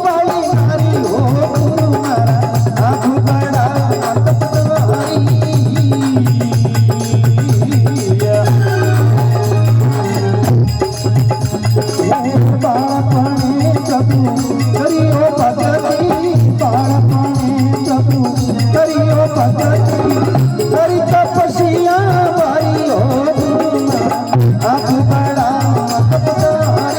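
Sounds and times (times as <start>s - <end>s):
hand percussion and rattles: 0.0s - 26.9s.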